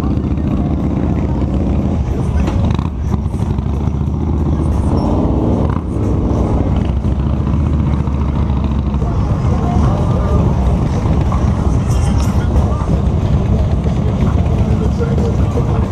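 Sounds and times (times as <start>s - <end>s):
motorcycle engines running: 0.0s - 15.9s.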